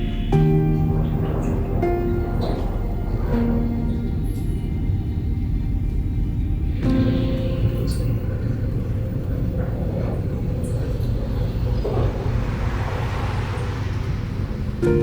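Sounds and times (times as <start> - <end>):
vehicle rumbling on road: 0.0 - 15.0.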